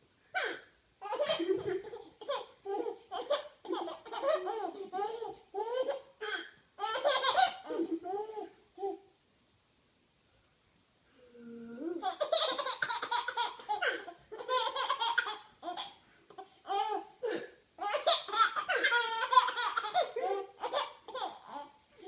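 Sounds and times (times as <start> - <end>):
baby laughing: 0.4 - 9.0, 12.0 - 17.1, 17.8 - 21.8.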